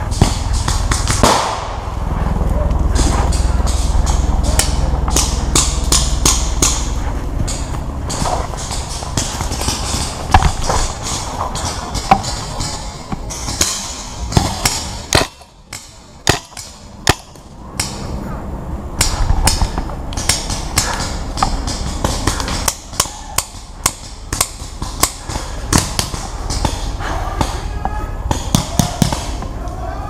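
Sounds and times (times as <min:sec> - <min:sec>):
paintball guns firing: 0:00.0 - 0:02.0, 0:03.0 - 0:18.0, 0:19.0 - 0:29.5.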